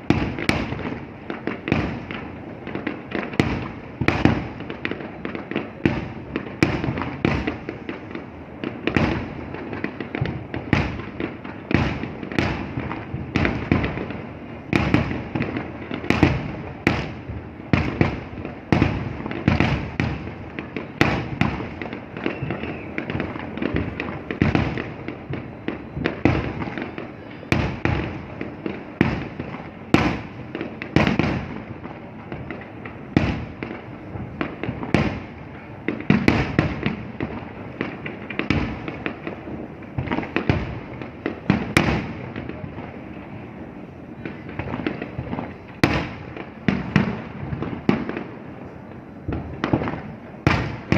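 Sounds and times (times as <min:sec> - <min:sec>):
fireworks bangs: 0:00.0 - 0:50.9
fireworks crackling rumble: 0:00.0 - 0:50.9.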